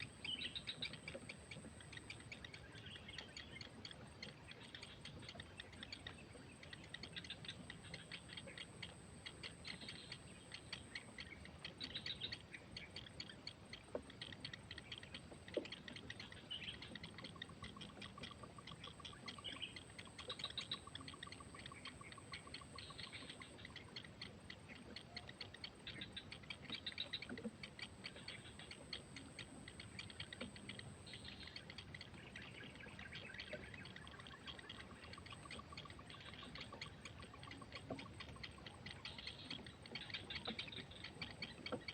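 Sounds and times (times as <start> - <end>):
faint birds chirping and calling: 0.0 - 41.9.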